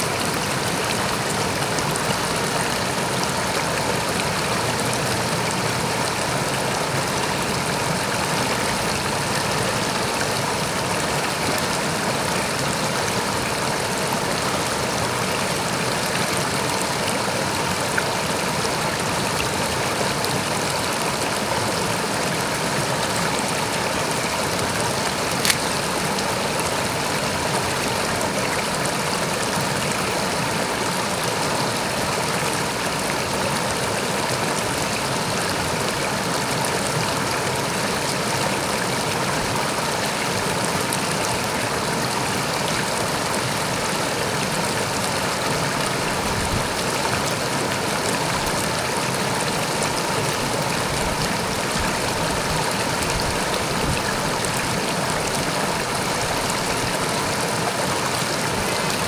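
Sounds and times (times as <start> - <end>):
river water rushing over boulders: 0.0 - 59.0.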